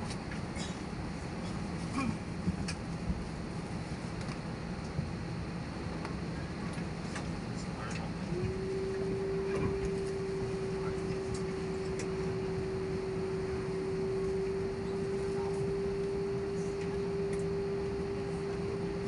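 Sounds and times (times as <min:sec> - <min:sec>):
cabin air-conditioning hiss: 0:00.0 - 0:19.0
steady humming tone: 0:00.0 - 0:19.0.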